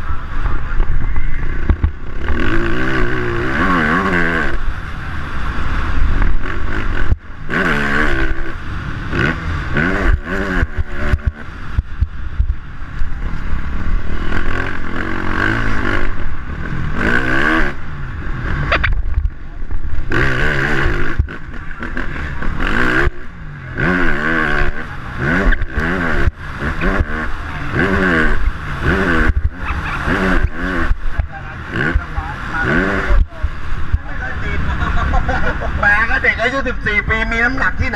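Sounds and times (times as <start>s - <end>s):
motocross bike engine revving: 0.0s - 37.9s
wind rumble on microphone: 0.0s - 37.9s.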